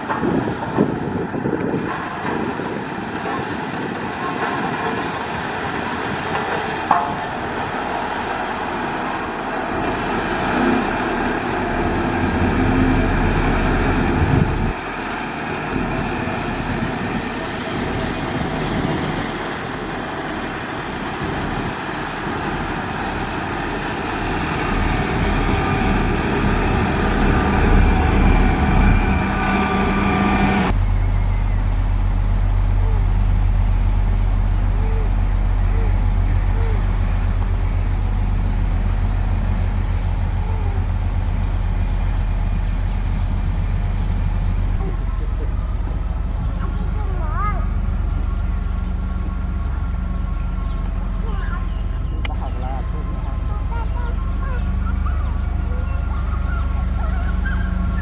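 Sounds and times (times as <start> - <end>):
deep engine hum: 0.0 - 58.0
motor grader diesel engine: 0.0 - 58.0.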